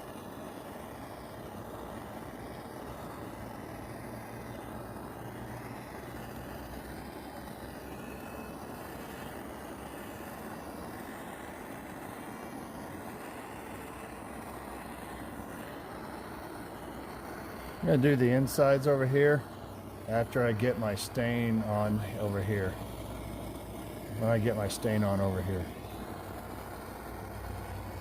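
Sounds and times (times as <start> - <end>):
torch flame rushing: 0.0 - 28.0.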